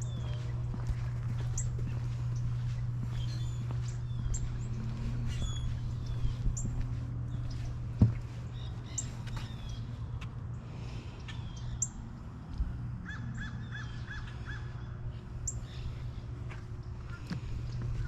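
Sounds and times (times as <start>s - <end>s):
birds calling and chirping: 0.0s - 18.0s
steady low hum: 0.0s - 18.0s.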